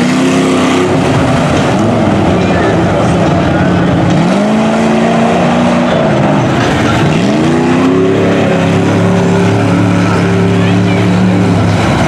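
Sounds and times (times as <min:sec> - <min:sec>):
tires throwing mud: 0:00.0 - 0:12.0
truck engine revving hard: 0:00.0 - 0:12.0.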